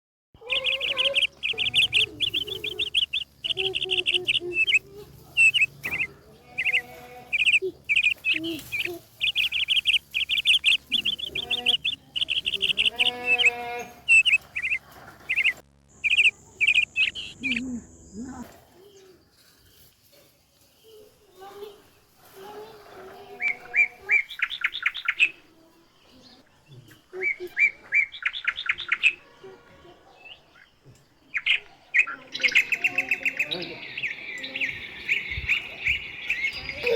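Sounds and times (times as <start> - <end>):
faint low bird calls: 0.4 - 19.4, 26.1 - 36.9
songbirds chirping trills: 0.4 - 36.9.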